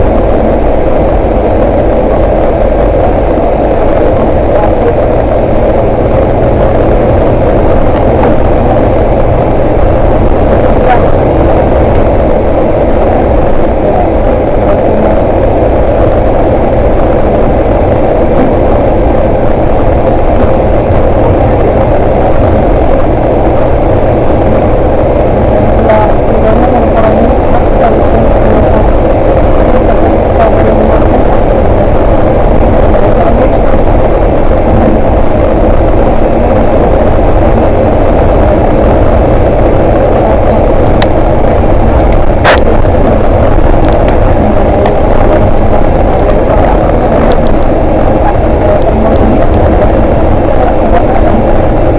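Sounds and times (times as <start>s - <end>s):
bus engine and road rumble: 0.0s - 51.9s.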